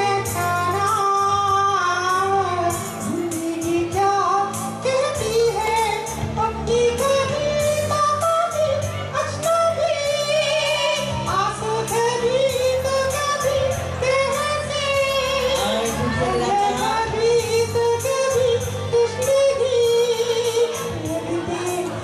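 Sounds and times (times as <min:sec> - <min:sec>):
person singing through microphone: 0:00.0 - 0:22.0
recorded backing music: 0:00.0 - 0:22.0.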